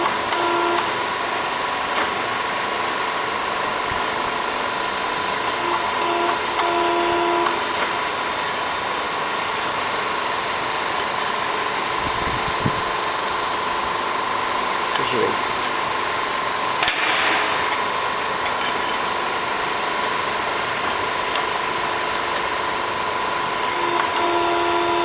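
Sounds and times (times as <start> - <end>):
pipe bending machine whining: 0.0 - 25.0.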